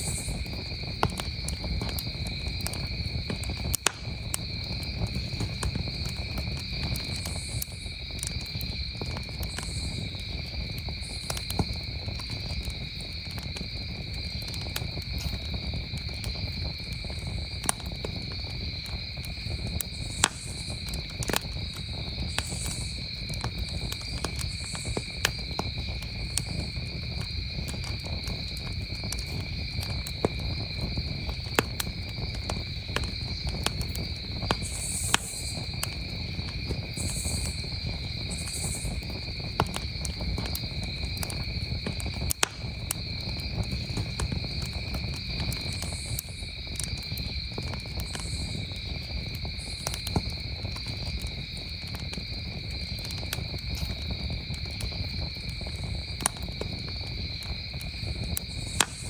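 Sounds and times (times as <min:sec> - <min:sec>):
campfire crackling and popping: 0:00.0 - 0:59.0
crickets chirring: 0:00.0 - 0:59.0.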